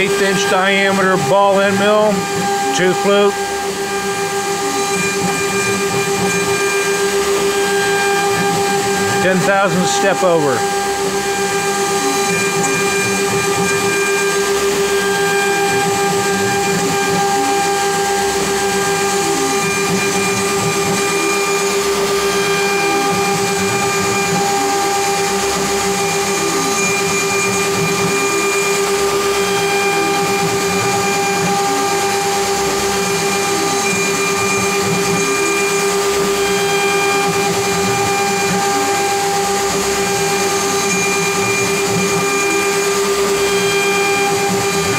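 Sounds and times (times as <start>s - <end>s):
router spindle whine: 0.0s - 44.9s.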